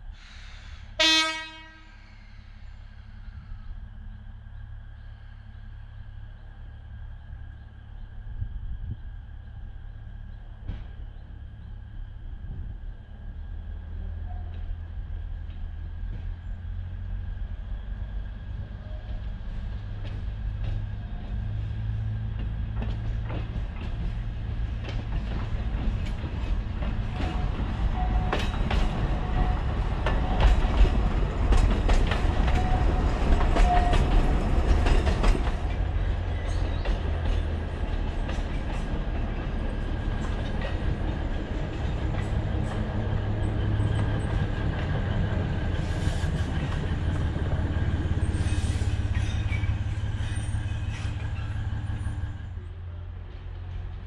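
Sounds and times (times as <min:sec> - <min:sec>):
diesel train engine rumble: 0:00.0 - 0:54.0.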